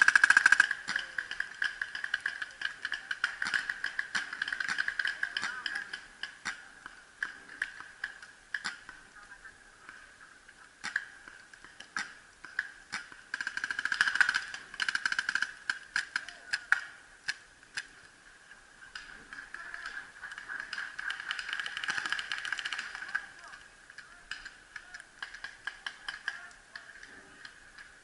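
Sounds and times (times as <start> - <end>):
paintball markers firing: 0.0 - 9.0, 10.8 - 18.0, 18.9 - 27.9.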